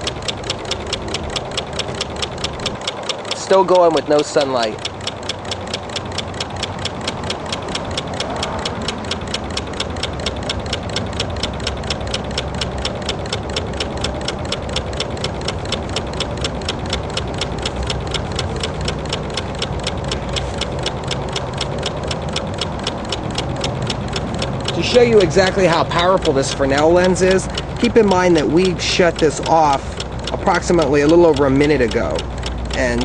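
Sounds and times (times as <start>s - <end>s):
stirling engine clicking: 0.0s - 33.0s.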